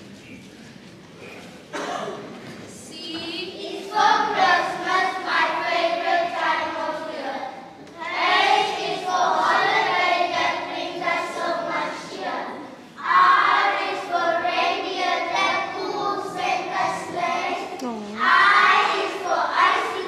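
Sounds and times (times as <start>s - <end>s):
children's choir singing carol: 2.9s - 17.8s, 18.4s - 20.0s.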